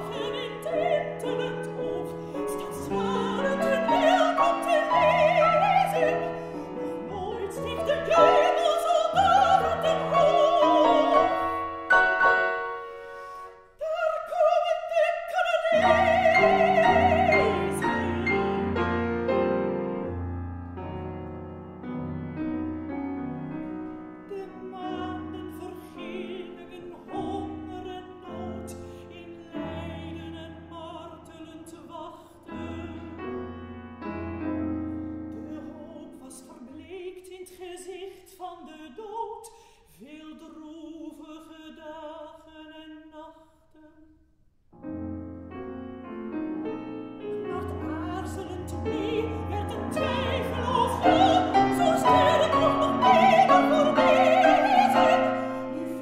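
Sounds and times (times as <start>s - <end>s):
soprano singing with vibrato: 0.0s - 19.6s, 24.0s - 33.6s, 35.2s - 44.1s, 47.2s - 56.0s
piano accompaniment: 0.0s - 36.6s, 44.8s - 56.0s.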